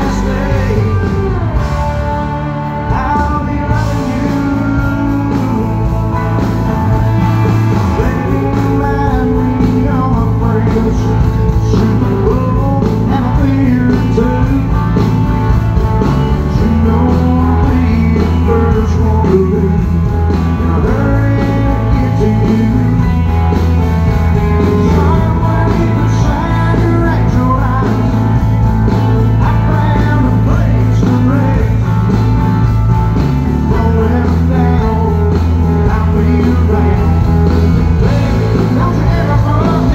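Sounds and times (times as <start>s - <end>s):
bass: 0.0s - 39.9s
drums: 0.0s - 39.9s
electric guitars: 0.0s - 39.9s
male lead vocal: 0.0s - 39.9s.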